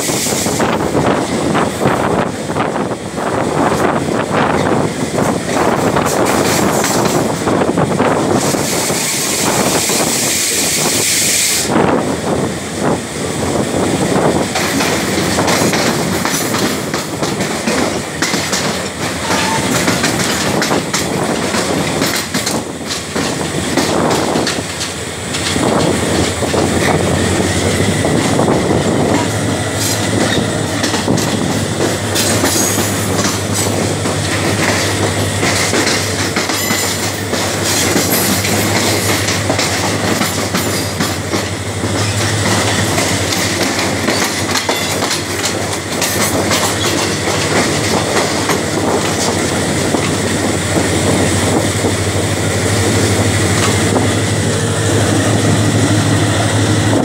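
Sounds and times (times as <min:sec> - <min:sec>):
rushing wind: 0:00.0 - 0:57.0
train wheels clattering on rails: 0:00.0 - 0:57.0.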